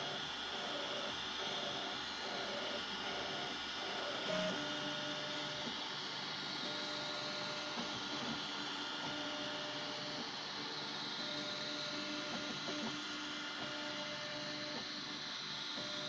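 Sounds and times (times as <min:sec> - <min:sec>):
printer stepper motors whining: 0:00.0 - 0:16.0.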